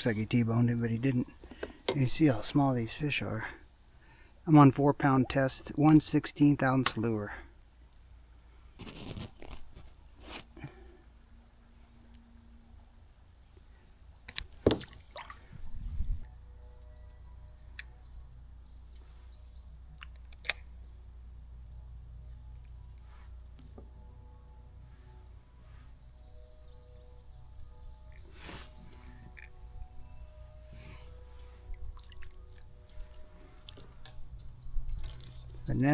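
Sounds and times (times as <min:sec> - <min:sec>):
insects chorusing drone: 0:00.0 - 0:35.9.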